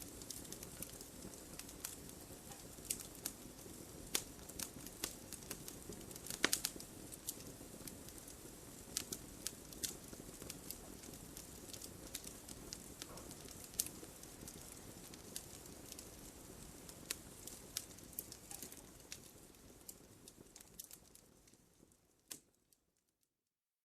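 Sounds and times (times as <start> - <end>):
low hiss of flames: 0.0 - 22.8
wood fire crackling and popping: 0.0 - 23.2.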